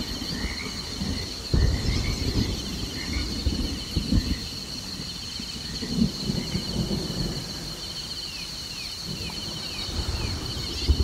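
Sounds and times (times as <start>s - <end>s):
high insect drone: 0.0s - 11.0s
low rumbles of thunder: 0.0s - 11.0s.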